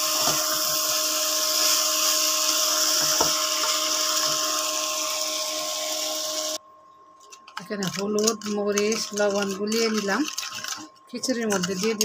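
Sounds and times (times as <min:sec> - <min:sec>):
cooktop electrical whine: 0:00.0 - 0:12.0.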